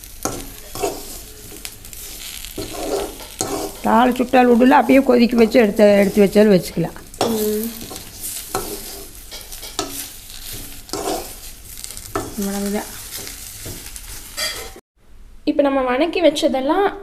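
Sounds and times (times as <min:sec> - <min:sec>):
food sizzling in oil: 0:00.0 - 0:14.8
spoon scraping a pan: 0:00.0 - 0:14.8.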